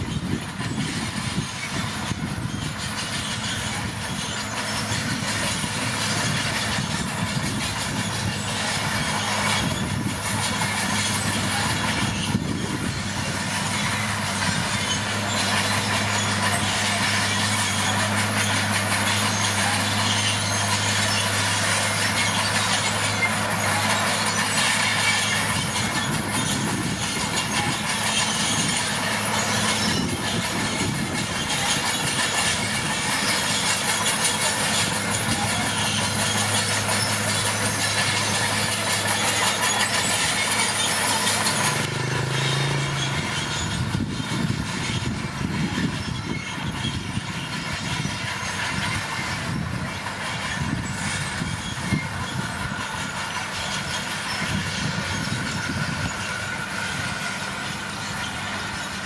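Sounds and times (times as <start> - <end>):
diesel engine running: 0.0 - 59.0
steel tracks clattering and squealing: 0.0 - 59.0.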